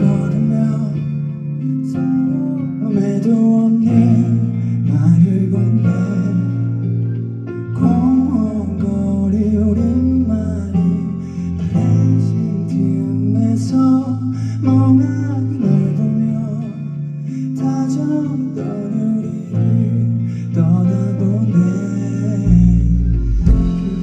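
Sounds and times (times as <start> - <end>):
guitar: 0.0 - 24.0
person singing: 0.0 - 24.0.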